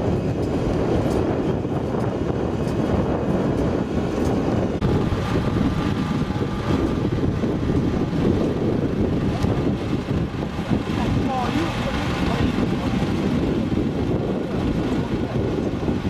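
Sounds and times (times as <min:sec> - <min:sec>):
low rumble of farm machine engine: 0:00.0 - 0:16.0
wind on microphone: 0:00.0 - 0:16.0.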